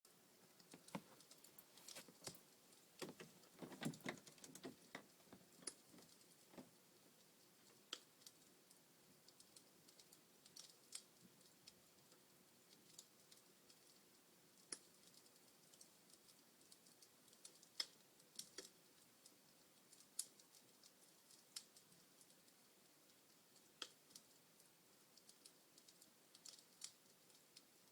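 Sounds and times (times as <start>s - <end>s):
wood fire crackling: 0.1s - 27.9s.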